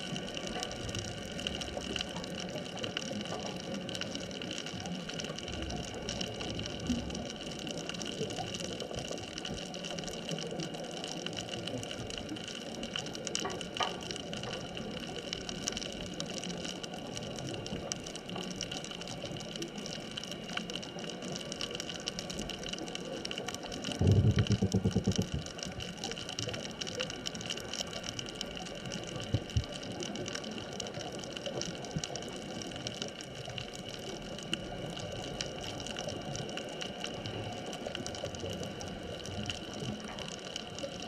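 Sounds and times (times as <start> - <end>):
underwater crackle: 0.0 - 41.0.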